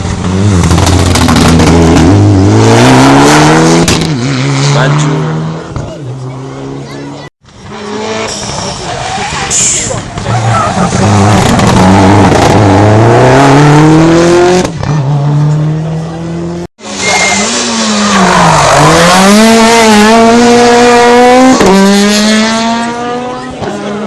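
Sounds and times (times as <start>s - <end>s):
rally car engines at full throttle: 0.0s - 24.0s.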